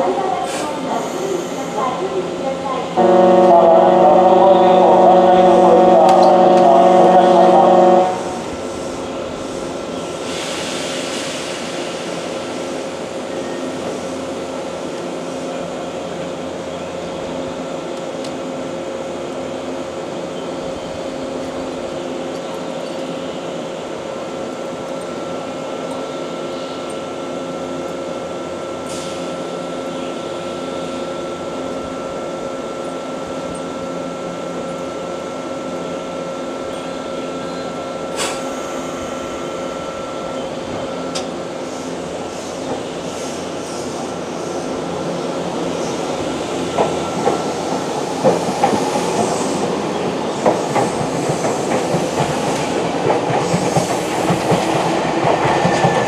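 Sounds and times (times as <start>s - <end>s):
electric train humming and whining: 0.0s - 56.0s.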